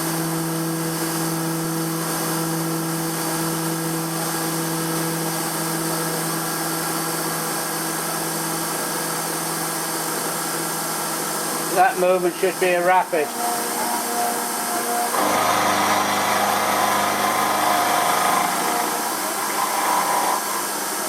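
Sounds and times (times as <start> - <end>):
milling machine hum: 0.2 - 21.0.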